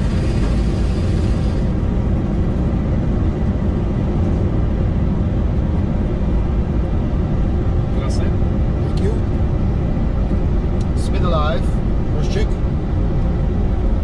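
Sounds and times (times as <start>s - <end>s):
jet engines rumbling at takeoff: 0.0s - 14.0s.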